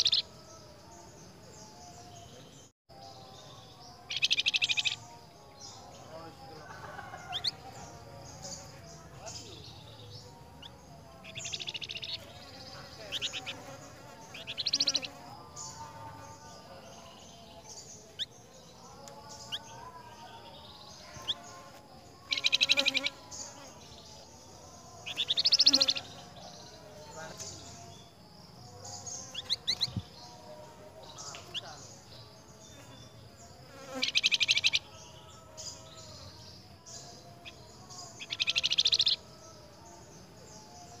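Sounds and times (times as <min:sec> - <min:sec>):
faint bird chirps: 0:00.0 - 0:16.3, 0:16.9 - 0:39.3.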